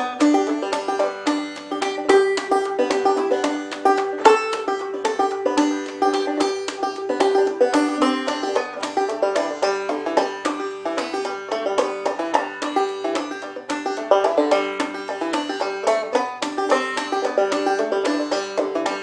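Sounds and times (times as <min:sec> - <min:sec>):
bluegrass banjo picking: 0:00.0 - 0:19.0.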